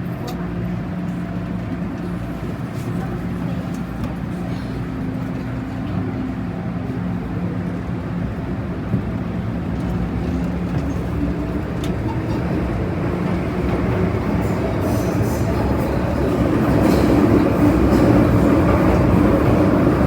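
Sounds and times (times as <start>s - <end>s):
train running hum: 0.0s - 20.0s.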